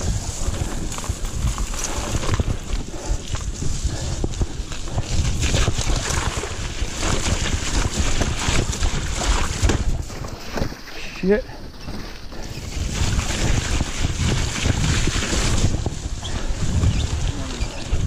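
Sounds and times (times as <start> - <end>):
bike knocking and rattling: 0.0 - 18.0
bike rolling on rocky trail: 0.0 - 18.0
wind buffeting microphone: 0.0 - 18.0.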